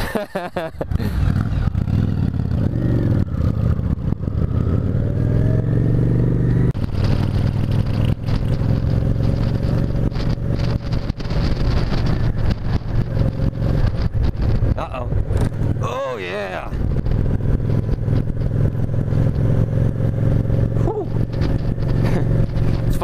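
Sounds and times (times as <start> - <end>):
motorcycle engine pulling away: 0.9 - 23.0.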